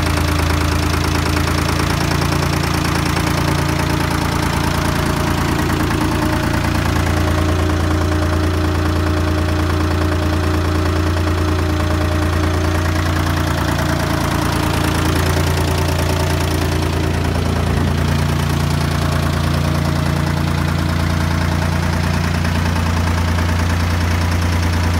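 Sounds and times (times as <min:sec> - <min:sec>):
diesel tractor engine idling: 0:00.0 - 0:24.9.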